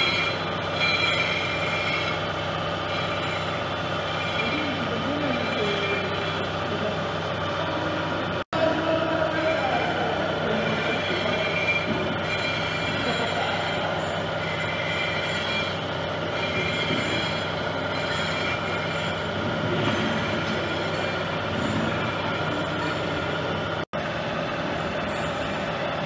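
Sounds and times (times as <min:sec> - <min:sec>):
machine tool cutting metal: 0:00.0 - 0:07.6, 0:09.2 - 0:23.8.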